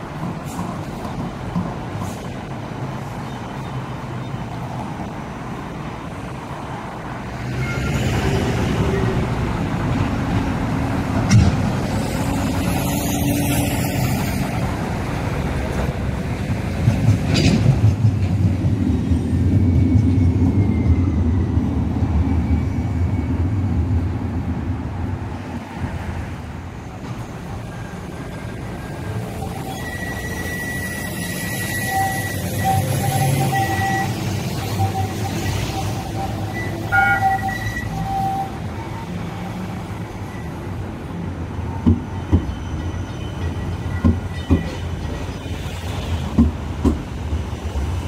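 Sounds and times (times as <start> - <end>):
road traffic: 0.0 - 48.0
tram rumbling past: 0.0 - 48.0.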